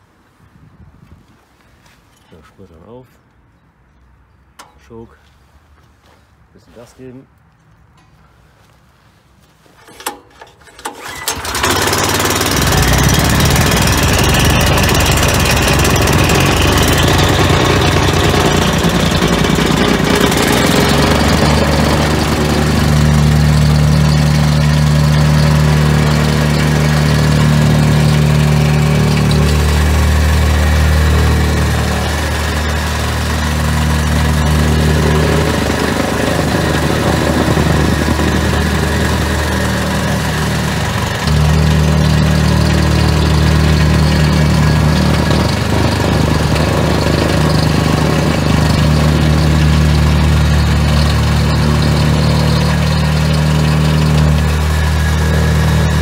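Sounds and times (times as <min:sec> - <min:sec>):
plate compactor engine: 0:09.8 - 0:56.0.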